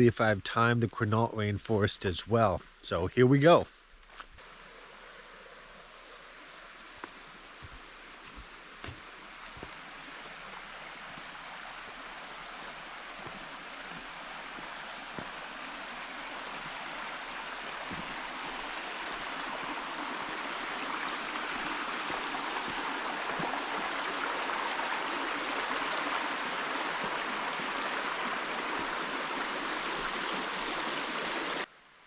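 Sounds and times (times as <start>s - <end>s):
stream water rushing: 4.4s - 31.7s.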